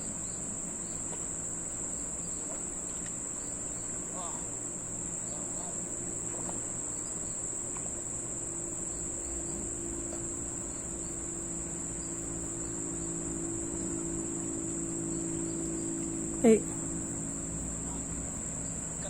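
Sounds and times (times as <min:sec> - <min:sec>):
insect chorus: 0:00.0 - 0:19.0
low steady hum: 0:00.0 - 0:19.0.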